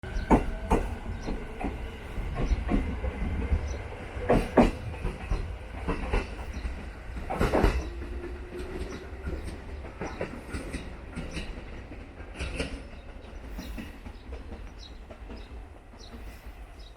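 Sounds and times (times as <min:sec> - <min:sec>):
train rumbling on rails: 0:00.0 - 0:16.9.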